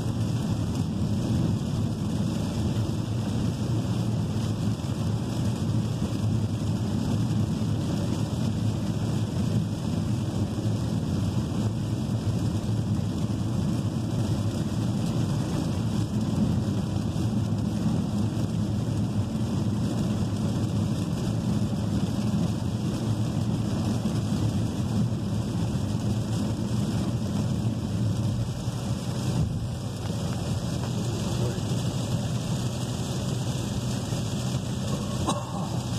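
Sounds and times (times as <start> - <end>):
car driving in heavy rain: 0.0 - 35.9
rain on car body: 0.0 - 35.9.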